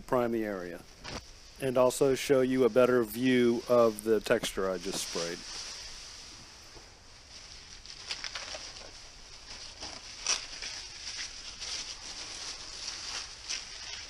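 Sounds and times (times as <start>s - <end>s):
plastic sheeting rustling and crinkling: 0.4s - 14.0s.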